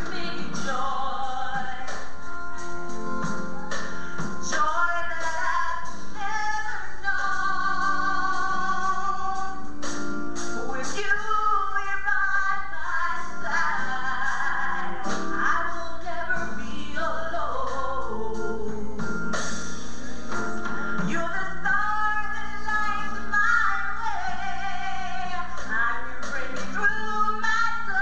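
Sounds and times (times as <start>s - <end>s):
woman singing gospel: 0.0s - 2.4s, 4.2s - 9.9s, 10.6s - 19.2s, 21.0s - 28.0s
instrumental accompaniment: 0.0s - 28.0s.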